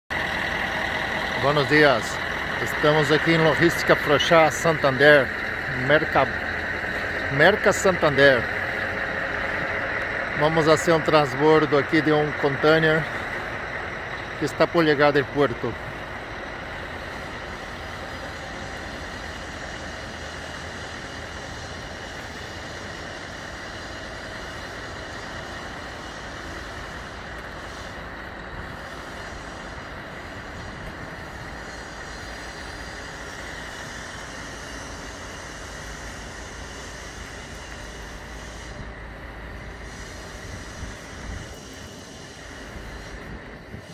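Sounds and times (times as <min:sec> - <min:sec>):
refrigeration units droning: 0:00.1 - 0:43.9.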